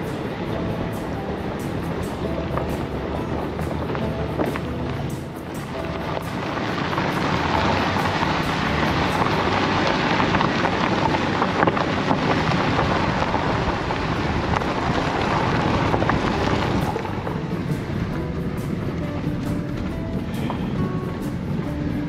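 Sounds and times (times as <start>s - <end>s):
tyre and road noise on dirt: 0.0s - 22.0s
wind rushing over microphone: 0.0s - 22.0s.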